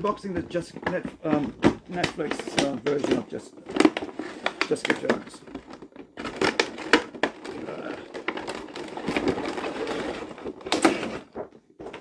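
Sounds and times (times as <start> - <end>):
packaging clicks and crinkles: 0.0 - 12.0
packaging scraping rustle: 0.0 - 12.0.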